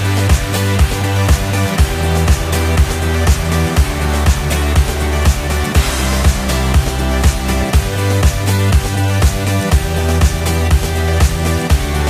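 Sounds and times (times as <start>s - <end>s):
background music with steady beat: 0.0s - 12.0s
deep sustained bass notes: 0.0s - 12.0s.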